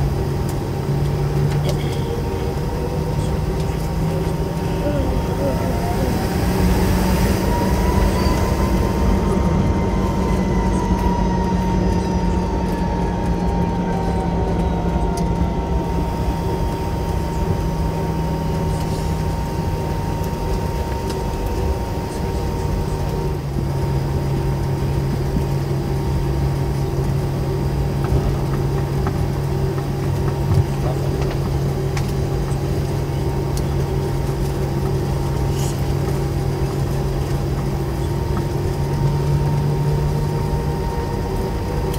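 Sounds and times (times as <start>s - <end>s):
jet engines idling hum and whine: 0.0s - 41.9s.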